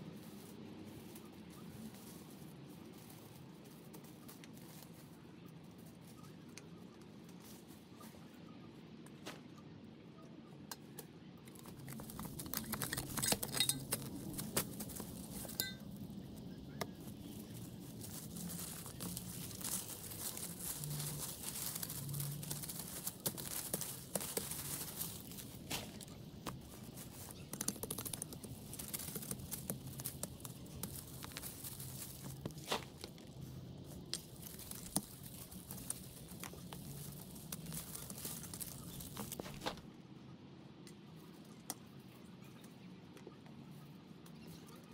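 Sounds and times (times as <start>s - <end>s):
dry leaves crackling and rustling: 0.0s - 8.4s, 11.4s - 39.9s.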